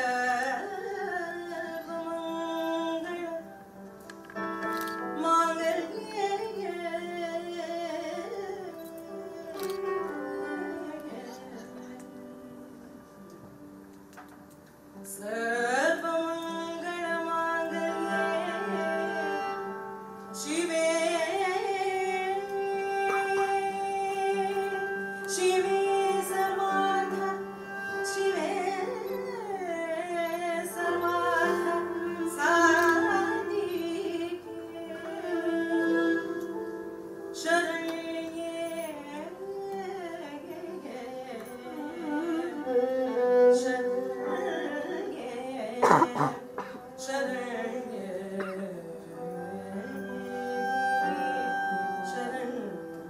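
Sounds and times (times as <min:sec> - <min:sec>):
woman singing: 0:00.0 - 0:03.7, 0:05.1 - 0:13.4, 0:15.0 - 0:53.0
violin: 0:00.0 - 0:53.0.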